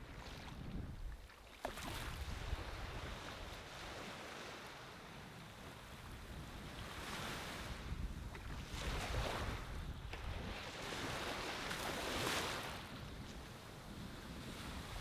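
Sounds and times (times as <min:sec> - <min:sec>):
wind rumble on microphone: 0:00.0 - 0:15.0
waves washing onto beach: 0:01.4 - 0:15.0.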